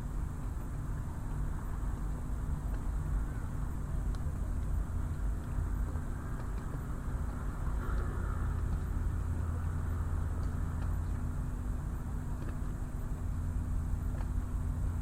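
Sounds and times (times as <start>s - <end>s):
constant hum: 0.0s - 15.0s
faint ticks: 0.0s - 15.0s
low engine rumble: 0.0s - 15.0s.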